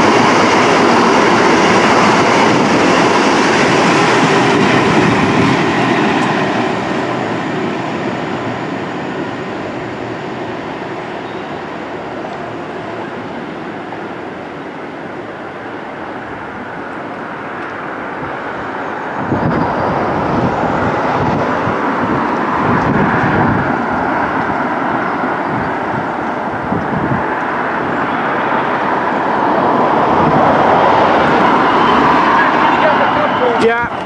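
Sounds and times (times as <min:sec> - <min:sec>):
distant traffic: 0:00.0 - 0:34.0
low rumbling surges: 0:00.0 - 0:34.0
rail noise: 0:00.0 - 0:34.0.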